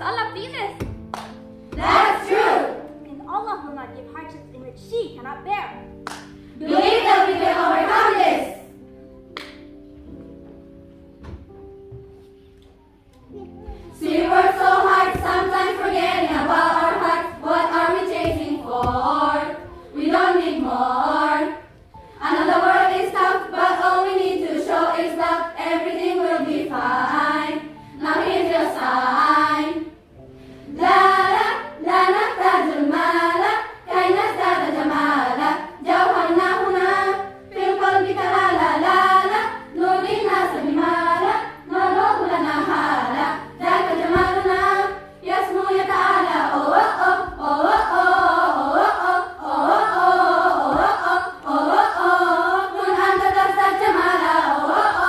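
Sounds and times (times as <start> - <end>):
girls' choir singing: 1.6 - 2.9, 6.2 - 8.8, 13.9 - 55.0.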